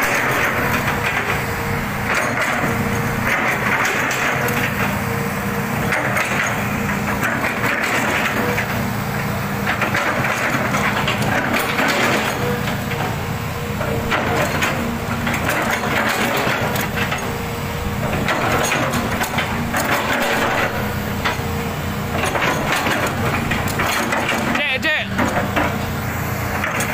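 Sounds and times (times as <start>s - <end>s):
excavator engine whining: 0.0s - 26.9s.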